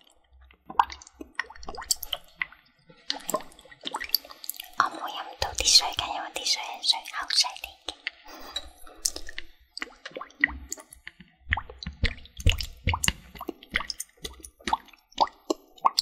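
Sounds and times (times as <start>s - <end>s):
wet plops drips and squishes: 0.0s - 6.1s, 7.6s - 16.0s.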